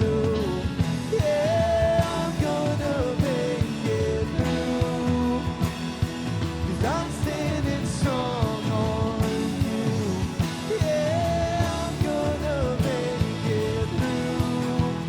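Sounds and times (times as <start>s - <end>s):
drums beating: 0.0s - 15.0s
rock band playing: 0.0s - 15.0s.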